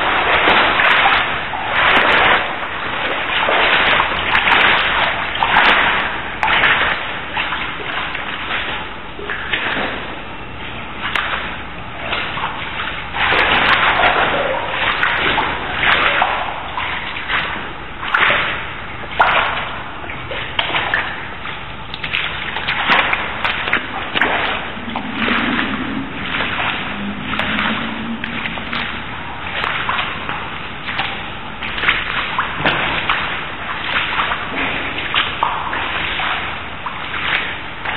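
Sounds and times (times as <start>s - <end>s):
footsteps splashing through water: 0.0s - 37.9s.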